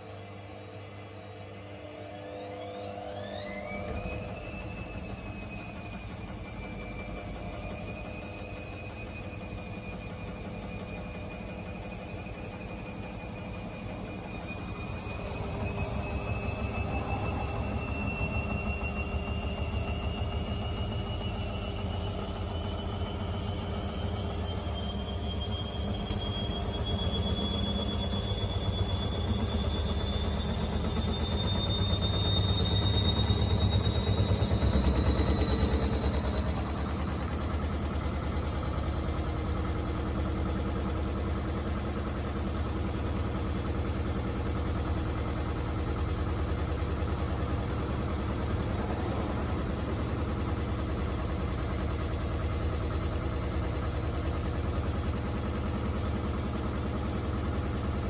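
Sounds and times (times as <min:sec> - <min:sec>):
washing machine spinning: 0:00.0 - 0:58.0
high whine: 0:01.2 - 0:58.0.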